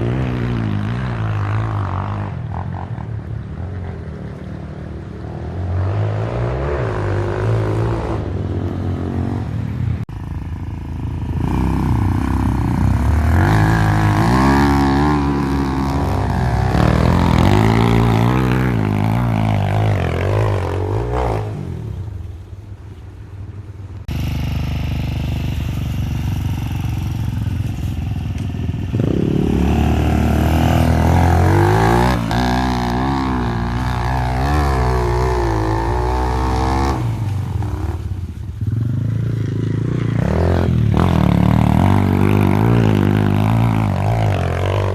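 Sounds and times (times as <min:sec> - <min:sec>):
dirt bike engine revving: 0:05.2 - 0:22.1, 0:24.1 - 0:44.9.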